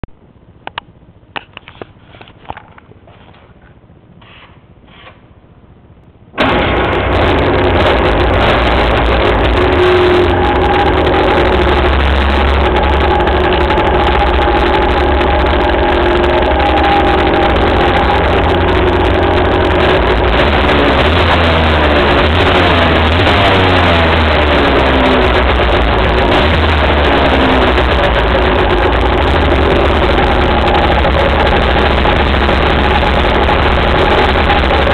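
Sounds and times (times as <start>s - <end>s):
two-stroke motorcycle engine running: 6.4s - 34.9s.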